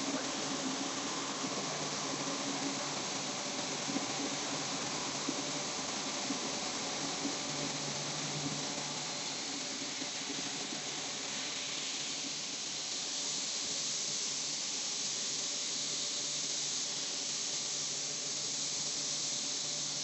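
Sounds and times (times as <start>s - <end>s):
mill machinery hiss: 0.0s - 20.0s.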